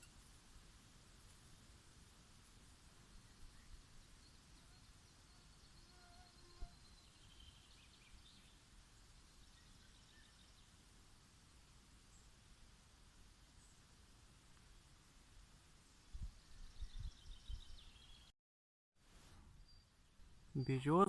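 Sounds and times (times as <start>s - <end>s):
faint distant birdsong: 0.0s - 18.3s, 19.2s - 21.0s.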